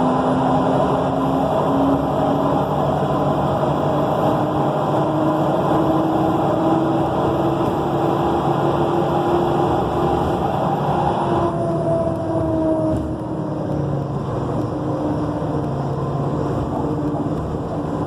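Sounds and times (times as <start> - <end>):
bus engine rumble: 0.0 - 18.0
rising whining tone: 0.0 - 18.0.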